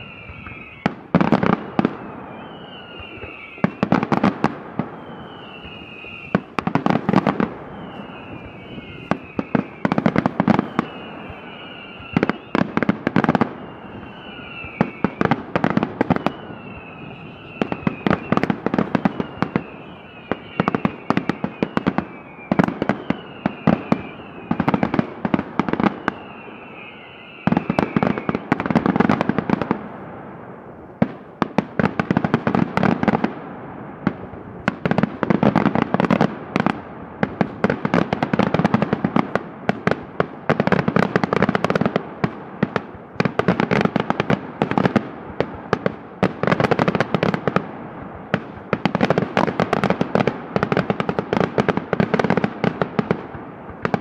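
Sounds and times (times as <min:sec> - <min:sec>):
fireworks bangs and crackles: 0:00.0 - 0:54.0
fireworks falling whistles: 0:00.0 - 0:54.0.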